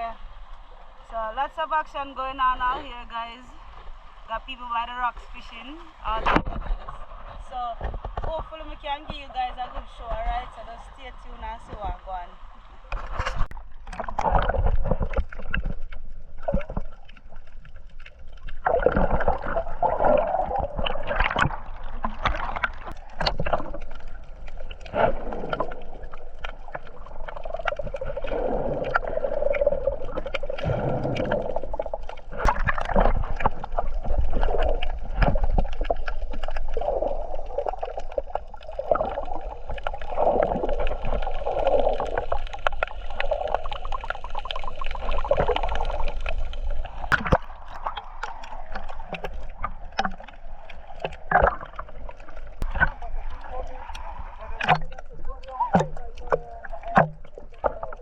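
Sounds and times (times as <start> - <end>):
low underwater rumble: 0.0 - 58.0
water sloshing and gurgling: 0.0 - 58.0.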